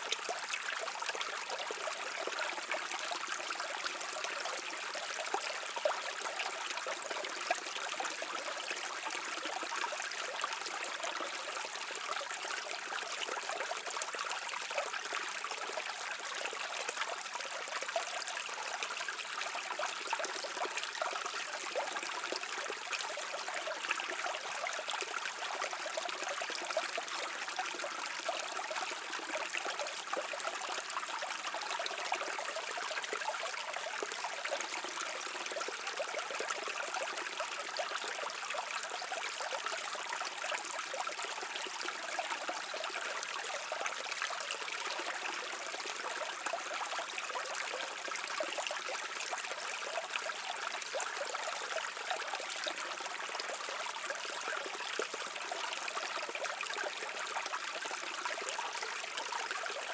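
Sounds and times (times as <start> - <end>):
brook flowing: 0.0 - 59.9.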